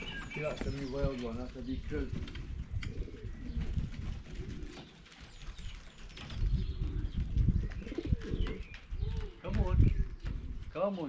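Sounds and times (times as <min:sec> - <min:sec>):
pigeons cooing: 0:00.0 - 0:10.7.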